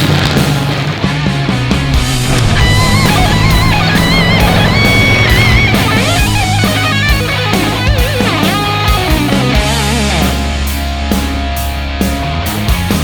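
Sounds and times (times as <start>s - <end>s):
bass and drums: 0.0s - 13.0s
electric guitar lead: 0.1s - 13.0s.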